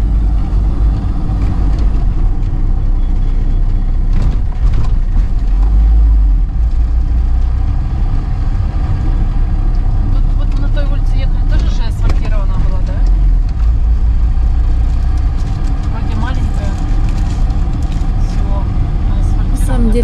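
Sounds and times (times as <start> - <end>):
car engine and tyre rumble: 0.0 - 19.7.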